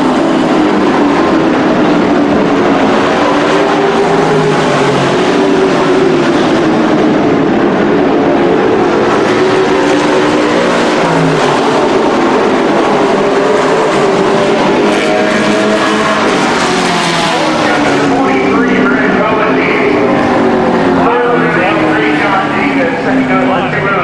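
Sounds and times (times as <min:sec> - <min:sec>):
race truck engines droning: 0:00.0 - 0:24.0.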